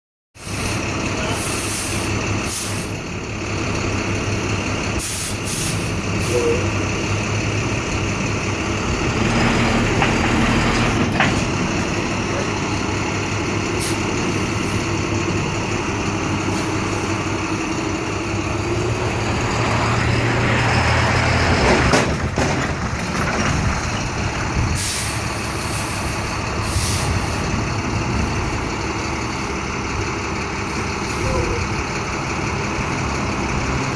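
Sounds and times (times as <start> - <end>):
vehicle engines running: 0.4 - 33.9
vehicles passing: 0.4 - 33.9.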